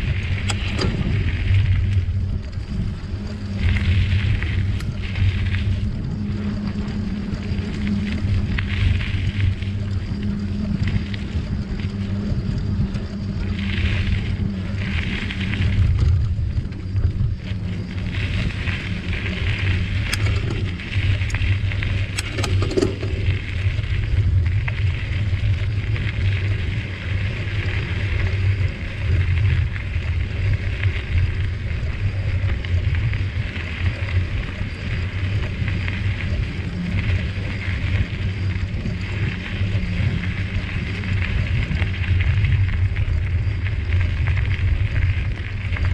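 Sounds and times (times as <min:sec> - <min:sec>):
bicycle tyres rolling: 0:00.0 - 0:45.9
sharp clicks and rattles: 0:00.0 - 0:45.9
wind on microphone: 0:00.0 - 0:45.9.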